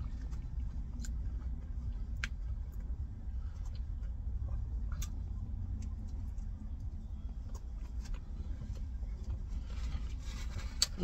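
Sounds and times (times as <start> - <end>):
chewing and biting a burger: 0.0 - 11.0
steady low rumble: 0.0 - 11.0.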